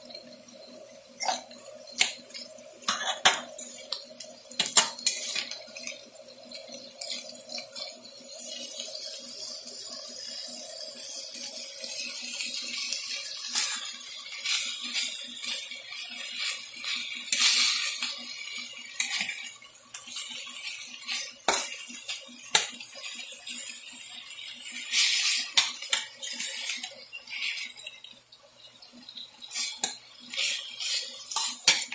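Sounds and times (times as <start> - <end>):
food sizzling in a frying pan: 0.0 - 31.9.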